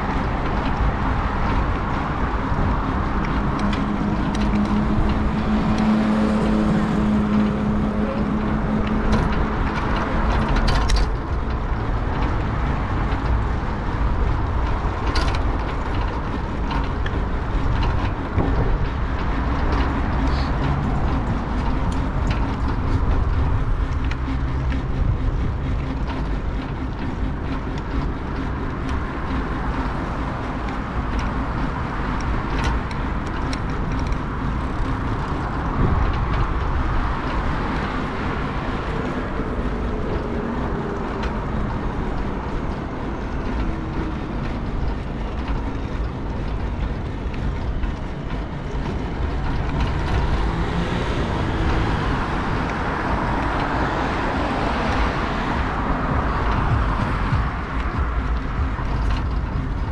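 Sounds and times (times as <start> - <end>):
bicycle tyres rolling: 0.0 - 59.9
city traffic: 0.0 - 59.9
wind noise: 0.0 - 59.9.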